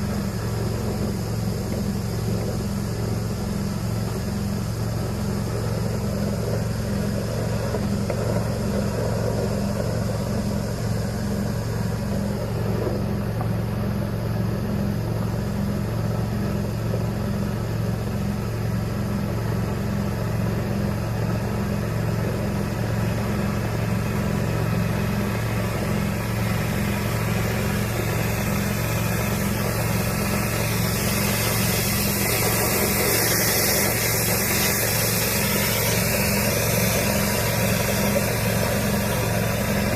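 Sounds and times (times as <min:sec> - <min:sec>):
hiss: 0:00.0 - 0:39.9
motor pulsing hum: 0:00.0 - 0:39.9.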